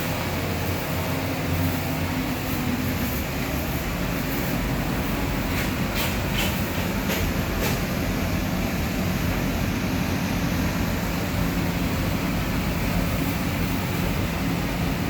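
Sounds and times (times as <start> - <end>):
machine drone with hiss: 0.0 - 15.0.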